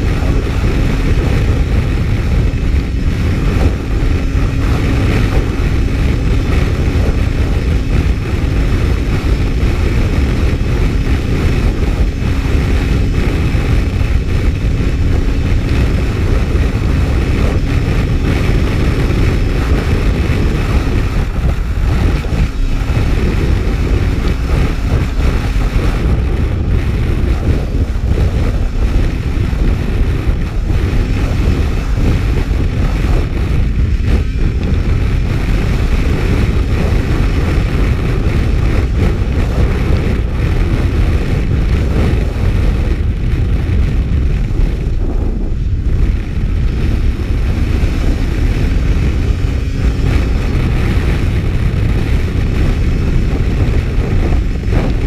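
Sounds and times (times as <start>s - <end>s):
snowmobile engine drone: 0.0s - 55.0s
wind on microphone: 0.0s - 55.0s.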